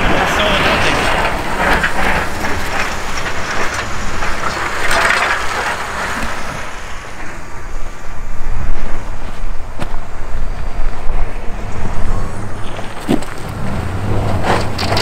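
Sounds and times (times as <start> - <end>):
low vehicle rumble: 0.0 - 15.0
snow crunching and scraping: 0.0 - 15.0.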